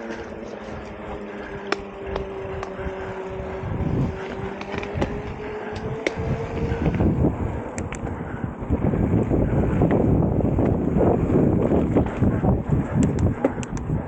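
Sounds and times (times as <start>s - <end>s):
bike clicking and knocking: 0.0s - 8.4s, 9.2s - 14.0s
bike tyres humming on trail: 0.0s - 14.0s
wind on microphone: 0.0s - 14.0s.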